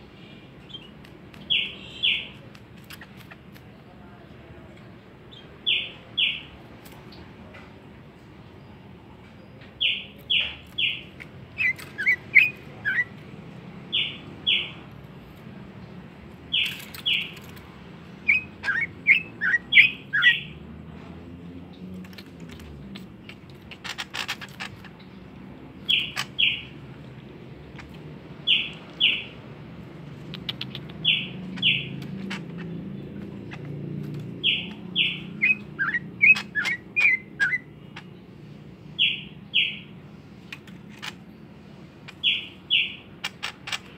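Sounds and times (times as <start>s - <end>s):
pet bird chirping: 0.1s - 4.0s, 5.1s - 7.3s, 9.4s - 14.9s, 16.4s - 20.7s, 21.6s - 43.9s.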